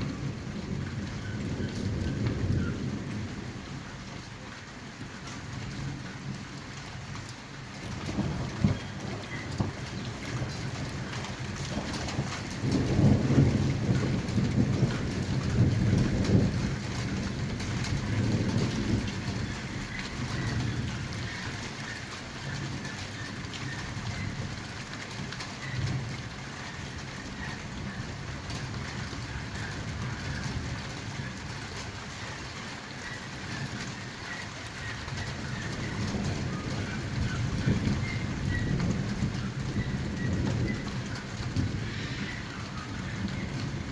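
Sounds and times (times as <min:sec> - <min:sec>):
rain on hard surfaces: 0:00.0 - 0:43.9
thunder rolling: 0:00.0 - 0:43.9.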